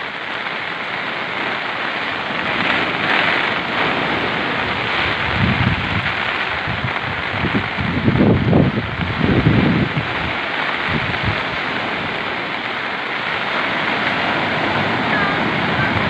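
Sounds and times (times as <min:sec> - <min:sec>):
heavy rain hissing: 0:00.0 - 0:16.0
wind buffeting microphone: 0:01.0 - 0:16.0.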